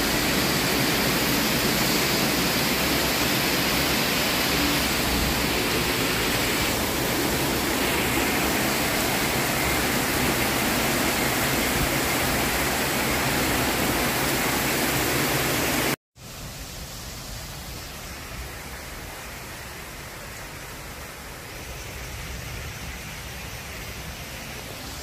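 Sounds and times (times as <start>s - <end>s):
heavy rain on roofs and trees: 0.0s - 25.0s.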